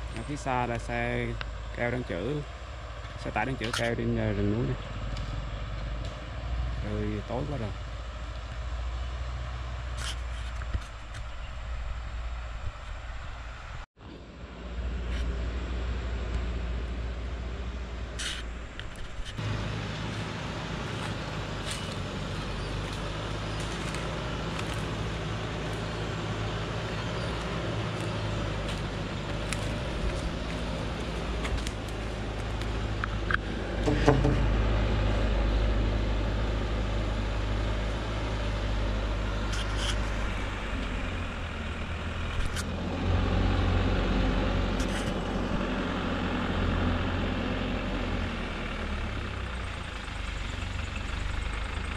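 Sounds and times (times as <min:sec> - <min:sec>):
truck engine idling: 0:00.0 - 0:12.5, 0:14.6 - 0:51.9.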